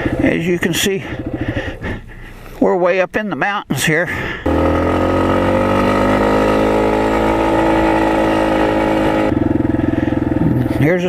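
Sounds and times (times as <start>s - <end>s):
dirt bike engine running: 0.0s - 2.4s, 4.4s - 11.0s.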